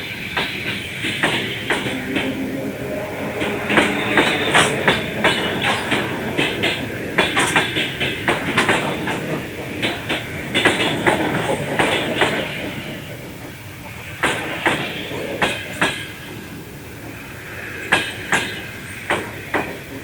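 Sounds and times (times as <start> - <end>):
train rumble: 0.0 - 20.0
train wheels clattering: 0.0 - 20.0.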